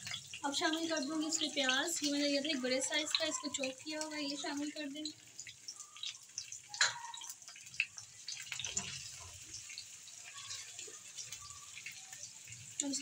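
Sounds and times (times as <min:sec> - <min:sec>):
onion sizzling in a frying pan: 0:00.0 - 0:13.0
spatula stirring a pan: 0:00.0 - 0:13.0.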